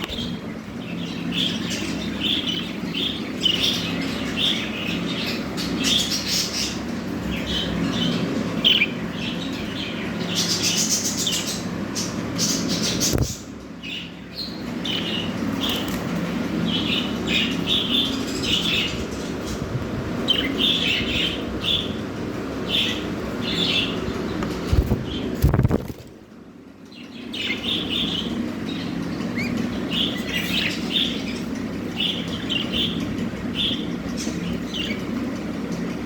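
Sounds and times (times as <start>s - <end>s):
budgerigars chirping: 0.1s - 22.0s, 22.6s - 24.4s, 27.0s - 36.0s.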